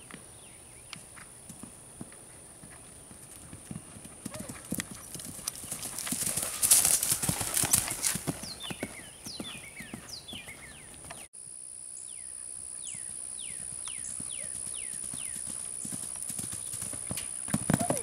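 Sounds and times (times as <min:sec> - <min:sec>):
horse hoofbeats on grass: 0:00.0 - 0:11.3, 0:12.9 - 0:18.0.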